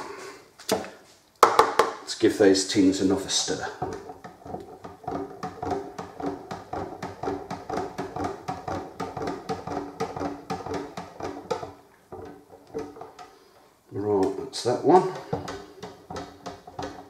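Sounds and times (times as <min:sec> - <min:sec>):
stirrer scraping in metal tin: 0:02.6 - 0:13.6, 0:14.3 - 0:17.0.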